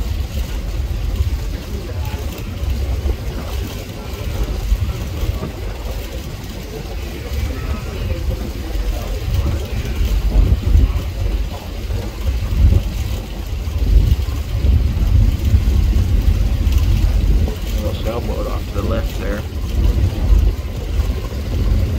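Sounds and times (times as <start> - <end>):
ferry engine rumble: 0.0 - 21.9
wind noise: 0.0 - 21.9.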